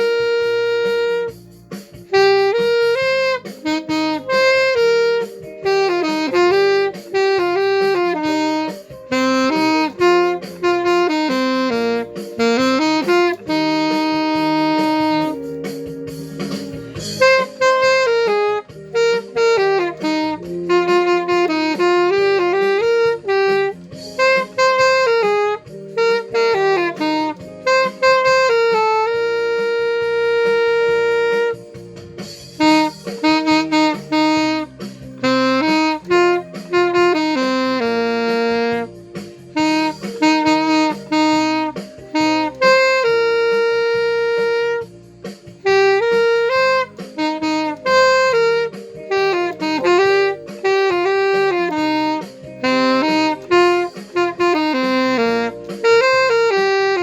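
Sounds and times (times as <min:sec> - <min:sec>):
cha-cha accompaniment: 0:00.0 - 0:57.0
saxophone melody: 0:00.0 - 0:57.0.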